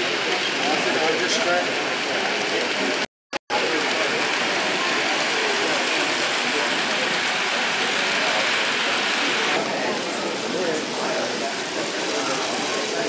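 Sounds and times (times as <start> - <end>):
model trains rattling on track: 0.0 - 13.0
murmur of hall: 0.0 - 13.0.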